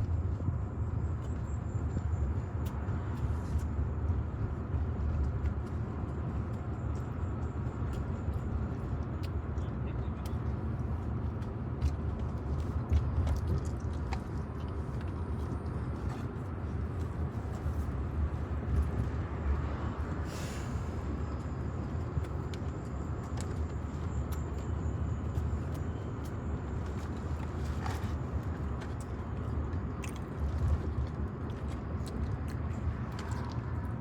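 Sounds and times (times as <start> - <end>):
car cabin road noise: 0.0 - 34.0.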